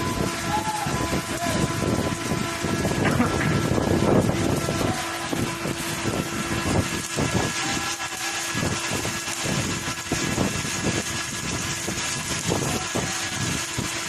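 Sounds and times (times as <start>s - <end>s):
machine humming: 0.0s - 14.0s
welding arc crackling hiss: 0.0s - 14.0s.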